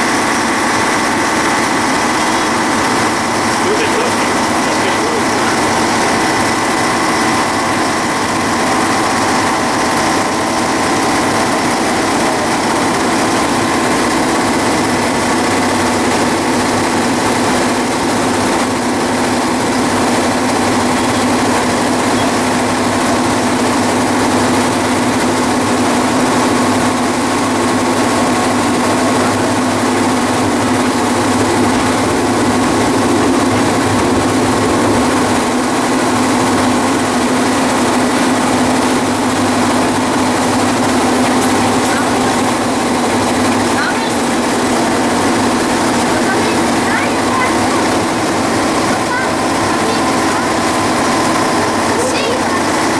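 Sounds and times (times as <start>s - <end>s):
diesel locomotive engine drone: 0.0s - 52.9s
steady humming tones: 0.0s - 52.9s.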